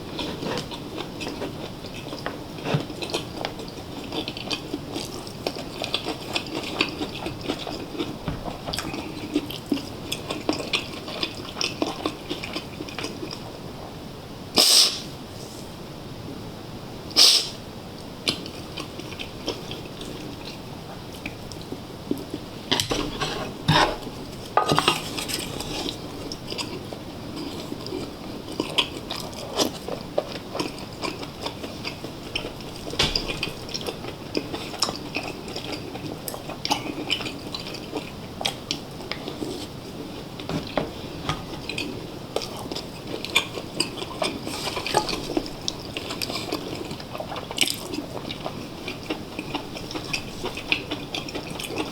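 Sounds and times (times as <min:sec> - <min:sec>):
biting and chewing: 0:00.1 - 0:13.6, 0:21.2 - 0:51.9.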